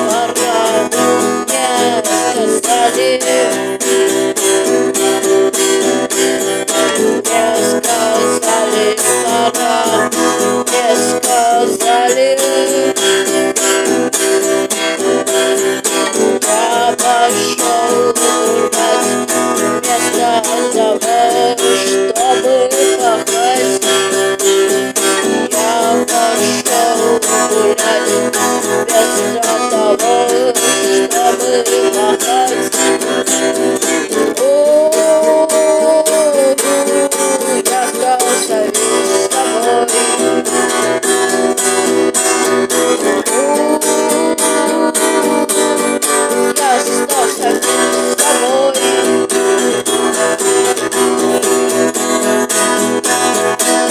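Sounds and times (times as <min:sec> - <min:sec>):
bass guitar: 0:00.0 - 0:53.9
lead guitar melody: 0:00.0 - 0:53.9
strummed guitar: 0:00.0 - 0:53.9.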